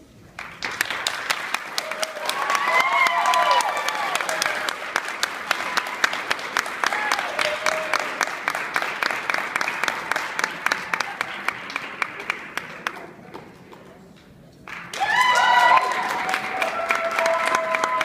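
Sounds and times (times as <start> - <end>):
audience clapping: 0.3 - 18.0.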